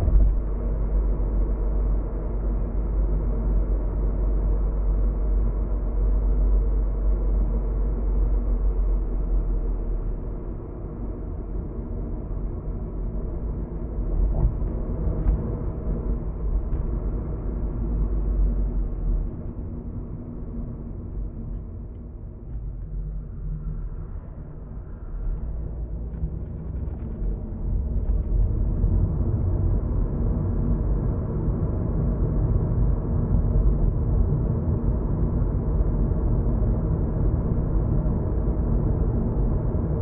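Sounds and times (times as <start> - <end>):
road and engine noise in car: 0.0 - 40.0.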